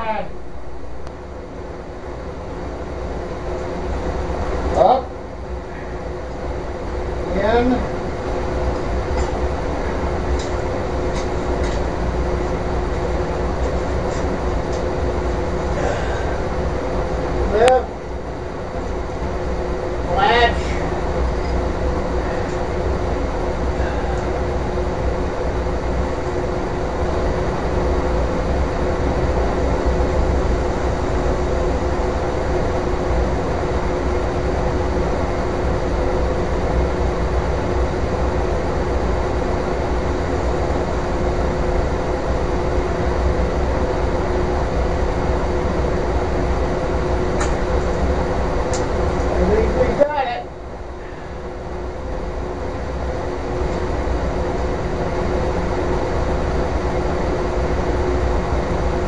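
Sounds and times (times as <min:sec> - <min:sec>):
furnace burner rumbling: 0:00.0 - 0:59.0.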